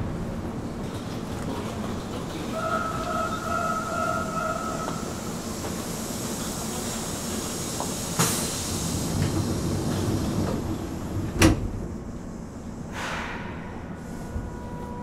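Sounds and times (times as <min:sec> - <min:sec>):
train car running noise: 0:00.0 - 0:15.0.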